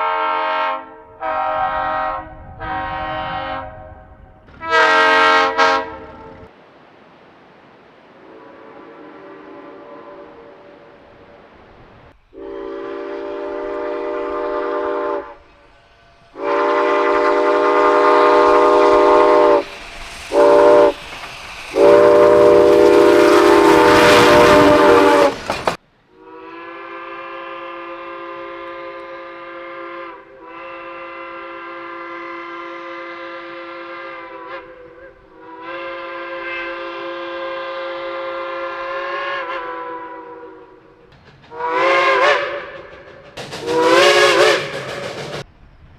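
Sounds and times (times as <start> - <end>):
multi-chime train whistle: 0.0 - 3.8, 8.2 - 10.9, 12.3 - 19.7, 20.3 - 21.0, 21.7 - 43.0, 43.6 - 45.4
passing train noise: 0.0 - 45.9.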